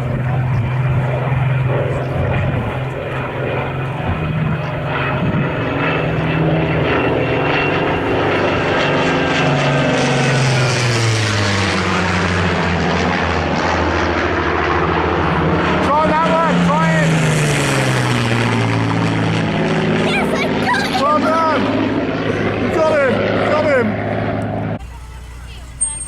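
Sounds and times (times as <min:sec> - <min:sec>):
propeller planes flying past: 0:00.0 - 0:26.0.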